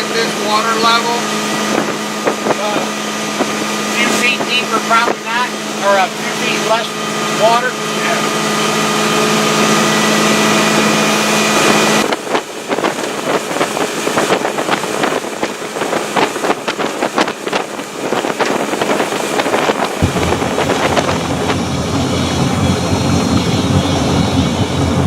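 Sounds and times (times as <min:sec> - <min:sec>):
rushing water with knocks and slaps: 0:00.0 - 0:22.8
boat motor running: 0:00.0 - 0:25.0.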